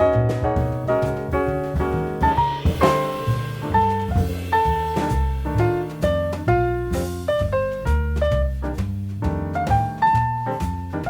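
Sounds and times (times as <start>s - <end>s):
drum kit: 0.0s - 11.0s
jazz piano: 0.0s - 11.0s
upright bass: 0.0s - 11.0s.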